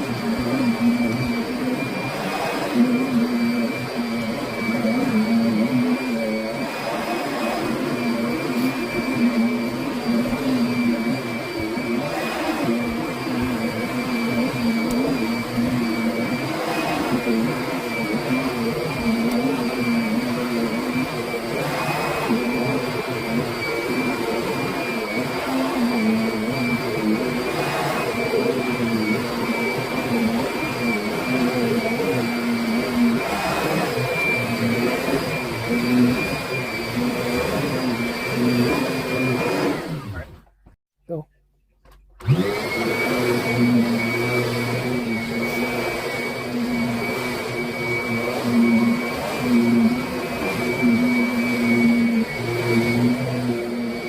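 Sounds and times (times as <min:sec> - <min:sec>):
vacuum cleaner running: 0:00.0 - 0:40.6, 0:42.2 - 0:54.0.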